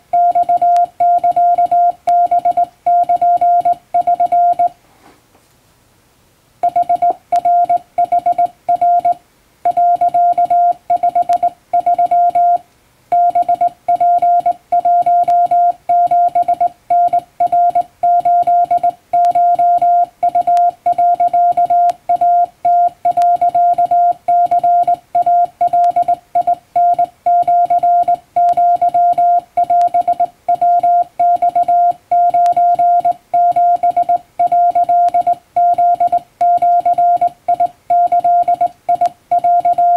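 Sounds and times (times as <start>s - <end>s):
morse code beeps: 0.2s - 4.8s, 6.6s - 39.9s.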